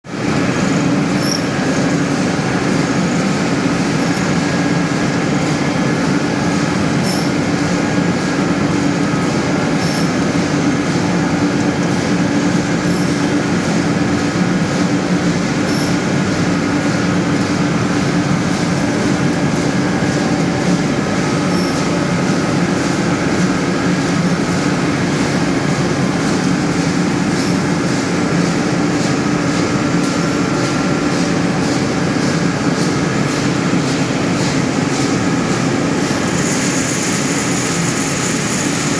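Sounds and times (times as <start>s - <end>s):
pellet mill machine drone: 0.0s - 38.9s.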